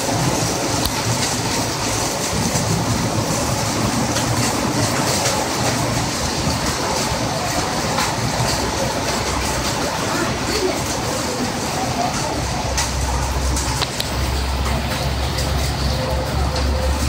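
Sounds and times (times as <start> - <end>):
hail and heavy rain pelting: 0.0 - 17.0
small sharp hail ticks: 0.7 - 11.1, 12.1 - 15.7.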